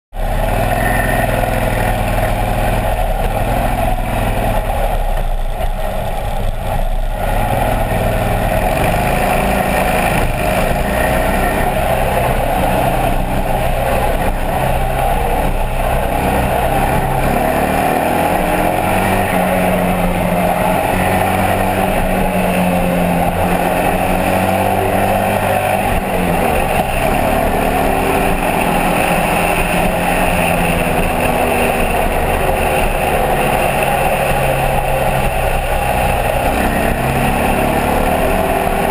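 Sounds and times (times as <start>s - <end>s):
wind and road noise: 0.1s - 38.9s
motorcycle engine running: 0.2s - 38.9s.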